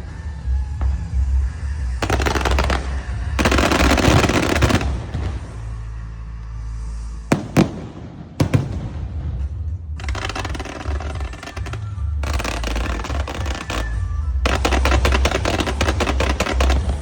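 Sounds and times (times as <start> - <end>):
fireworks crackling: 0.0 - 17.0
fireworks bangs: 0.7 - 5.9, 7.3 - 17.0.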